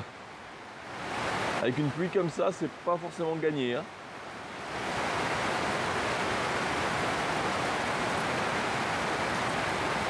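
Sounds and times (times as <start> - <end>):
heavy rain on foliage: 0.0 - 10.0.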